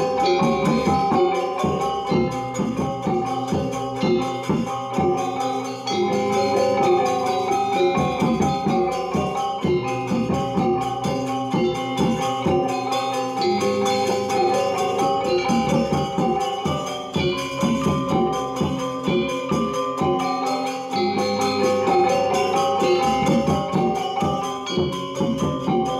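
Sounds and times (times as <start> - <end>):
drums: 0.0 - 25.9
gongs ringing: 0.0 - 25.9
metallophones ringing: 0.0 - 25.9.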